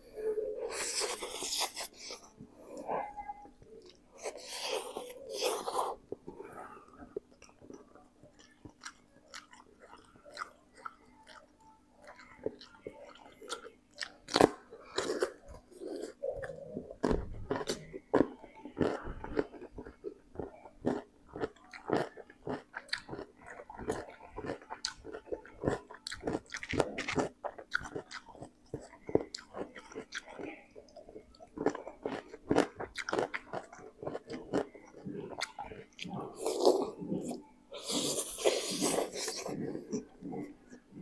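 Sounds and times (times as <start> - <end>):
chewing noodles: 3.8 - 41.0.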